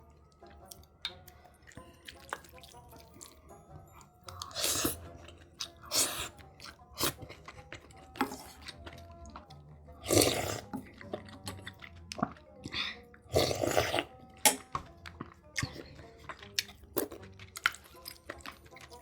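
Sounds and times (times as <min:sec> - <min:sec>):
wet chewing: 0:00.4 - 0:19.0.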